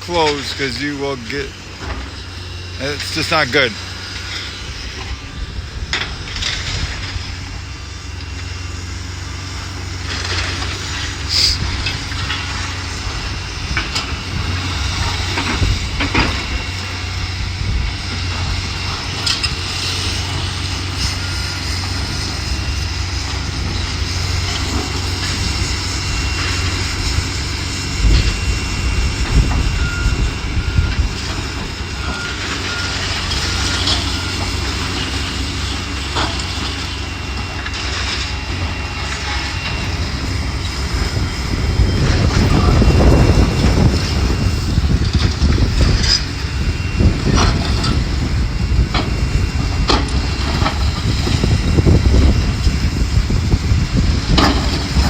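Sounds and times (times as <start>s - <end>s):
demolition machinery rumbling: 0.0s - 55.0s.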